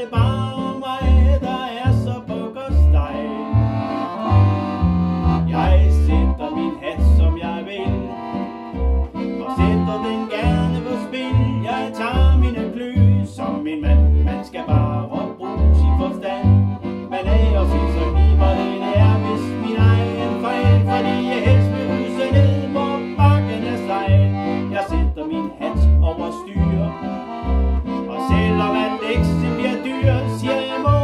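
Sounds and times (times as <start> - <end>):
accordion playing: 0.0 - 31.0.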